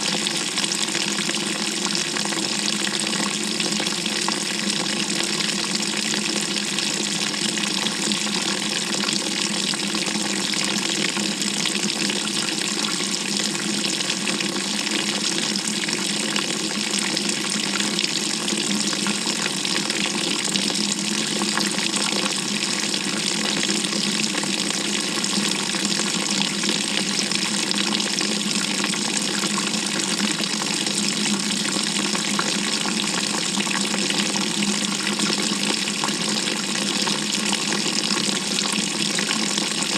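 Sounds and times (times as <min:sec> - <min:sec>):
water pouring into washer tub: 0:00.0 - 0:39.9.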